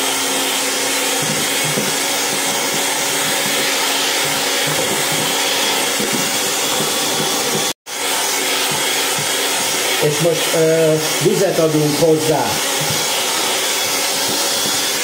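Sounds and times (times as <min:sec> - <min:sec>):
electric hand mixer whisking: 0:00.0 - 0:15.0.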